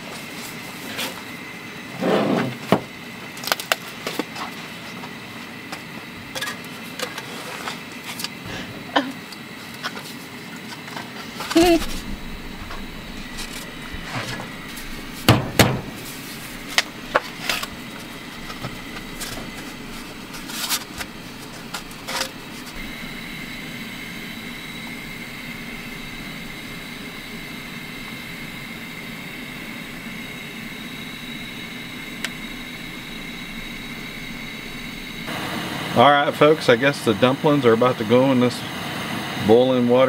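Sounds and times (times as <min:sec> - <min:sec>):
camp stove burner hissing: 0:00.0 - 0:40.0
water boiling in a pot: 0:00.0 - 0:40.0.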